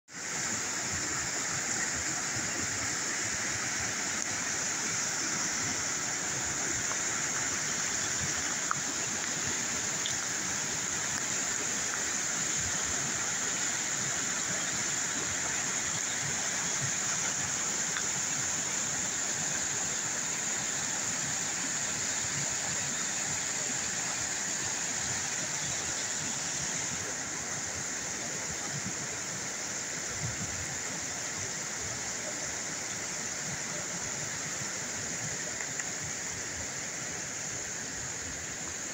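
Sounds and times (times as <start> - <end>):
small waterfall rushing: 0.1 - 38.9.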